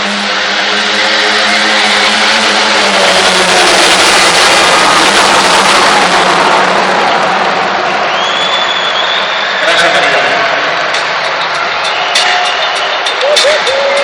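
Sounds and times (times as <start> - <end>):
loud truck engine running: 0.0 - 14.0.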